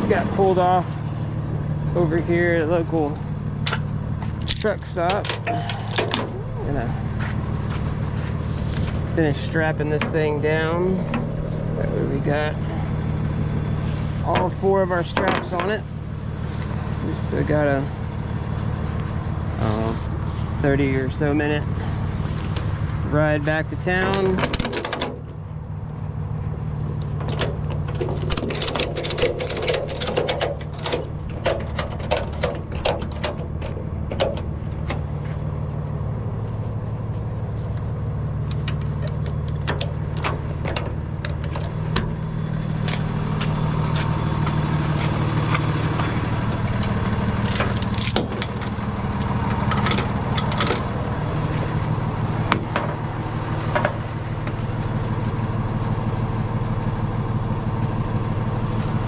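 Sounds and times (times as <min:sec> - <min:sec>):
tow truck engine running: 0:00.0 - 0:59.0.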